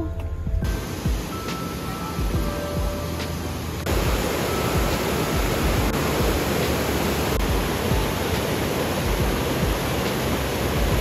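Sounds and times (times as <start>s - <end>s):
river rapids rushing over boulders: 0.6s - 11.0s.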